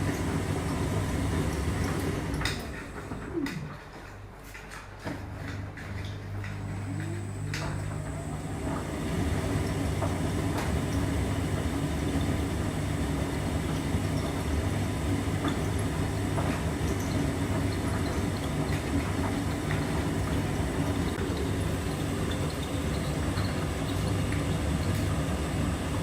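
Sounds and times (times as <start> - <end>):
appliance motor hum: 0.0 - 26.0.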